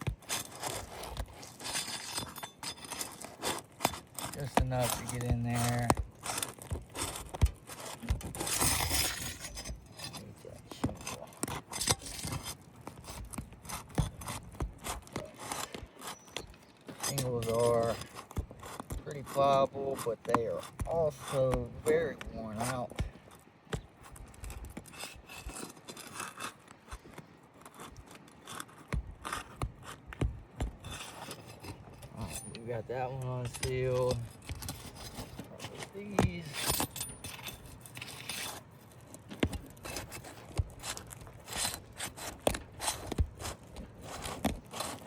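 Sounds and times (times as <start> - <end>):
flat bar scraping shingles: 0.0 - 45.0.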